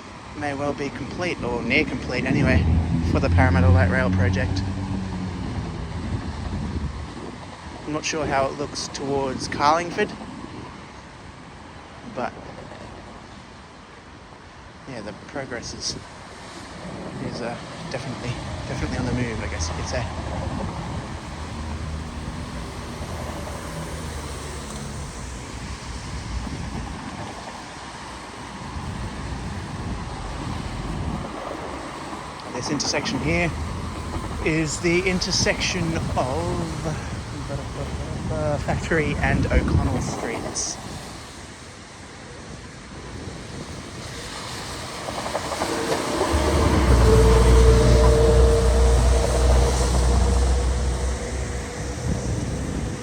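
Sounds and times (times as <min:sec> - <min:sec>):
car engine and road noise: 0:00.0 - 0:09.3, 0:16.0 - 0:53.0.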